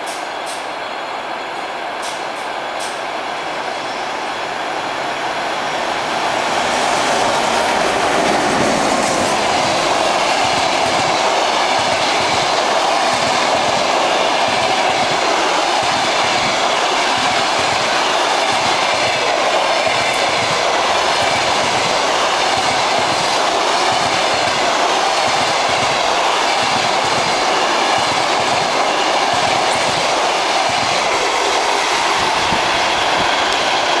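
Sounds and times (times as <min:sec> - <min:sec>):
train wheels rushing on rails: 0:00.0 - 0:34.0
clickety-clack over rail joints: 0:02.0 - 0:03.0, 0:06.9 - 0:34.0.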